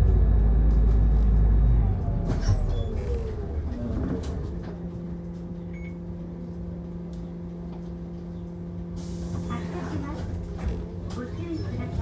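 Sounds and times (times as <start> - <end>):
bus engine low hum: 0.0 - 12.0.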